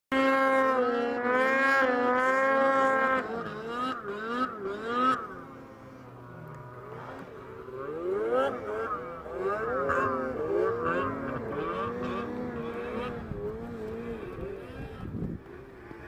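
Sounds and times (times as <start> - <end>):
snowmobile engine revving: 0.1 - 16.0.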